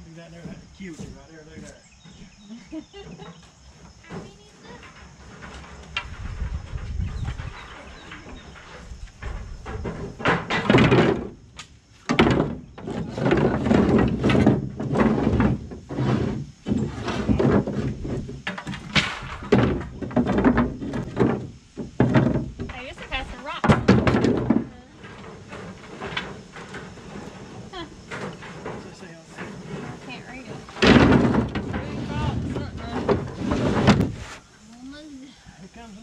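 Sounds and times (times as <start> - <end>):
wooden sticks clattering: 3.1 - 34.4.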